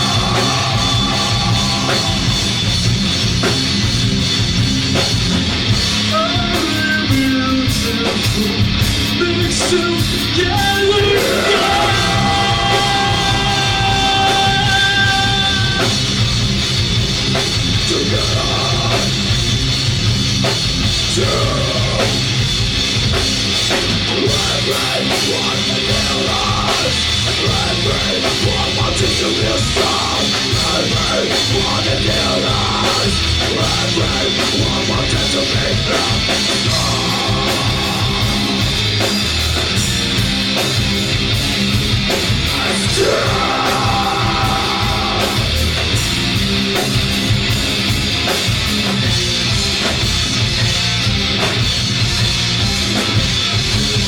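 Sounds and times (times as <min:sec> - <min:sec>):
amplified guitars: 0:00.0 - 0:54.0
drum kit beat: 0:00.0 - 0:54.0
live rock band playing: 0:00.0 - 0:54.0.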